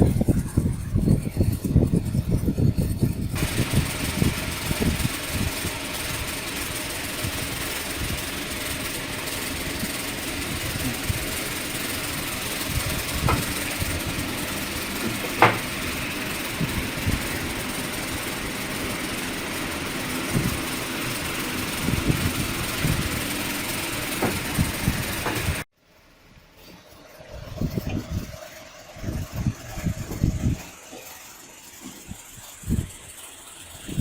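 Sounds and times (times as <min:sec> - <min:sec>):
machine running: 0:00.0 - 0:25.7, 0:26.8 - 0:34.0.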